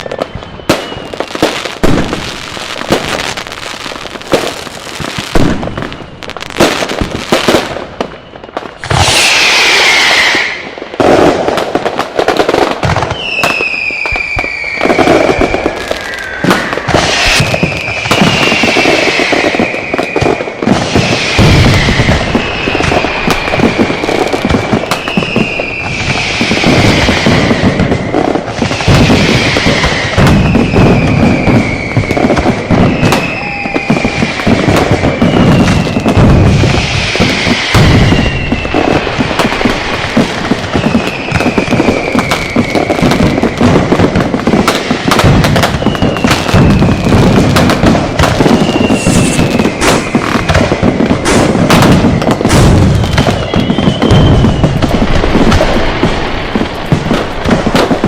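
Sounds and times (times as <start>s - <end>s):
firecracker bangs and crackles: 0.0s - 58.0s
whistling fireworks: 0.0s - 58.0s.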